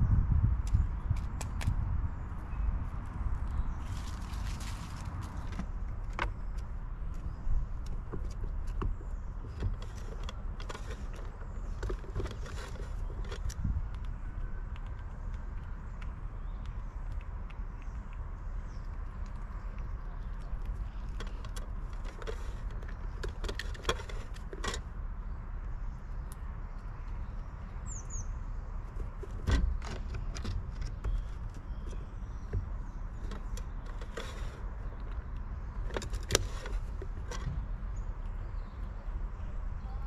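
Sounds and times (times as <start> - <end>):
bird chirp: 0.0 - 40.0
distant traffic rumble: 0.0 - 40.0.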